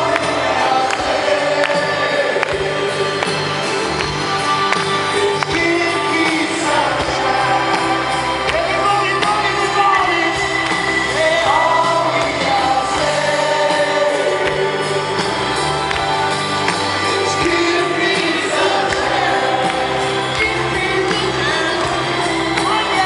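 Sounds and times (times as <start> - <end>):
crowd singing together: 0.0 - 23.0
live band playing loudly: 0.0 - 23.0.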